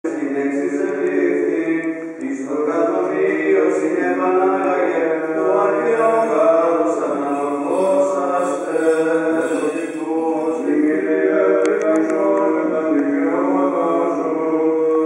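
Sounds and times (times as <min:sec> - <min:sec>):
male voices chanting unaccompanied: 0:00.0 - 0:15.0.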